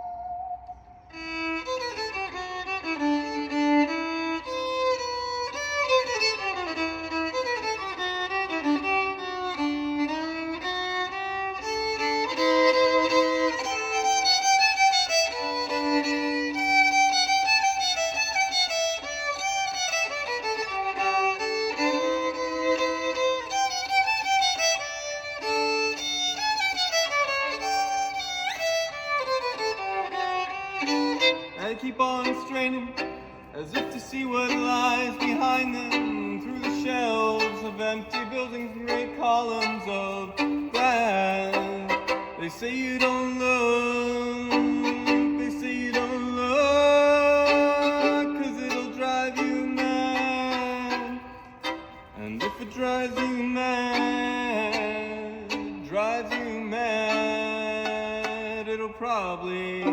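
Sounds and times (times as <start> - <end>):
violin melody with sliding notes: 1.1 - 59.9.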